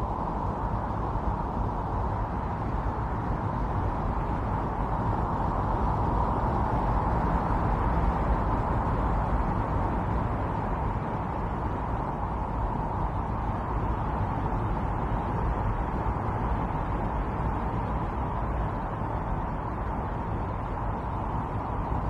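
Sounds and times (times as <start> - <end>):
strong storm wind: 0.0 - 22.0.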